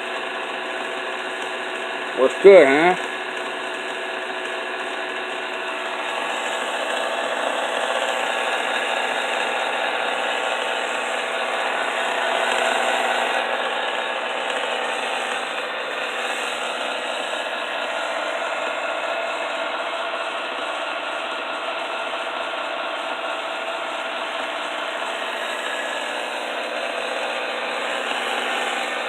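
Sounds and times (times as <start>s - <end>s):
electric mixer motor whine: 0.0s - 29.0s.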